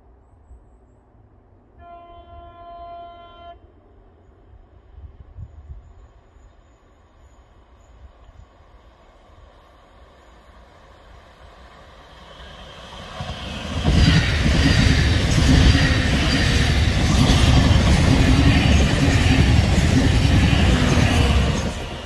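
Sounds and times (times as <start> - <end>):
train passing on rails: 0.0 - 22.0.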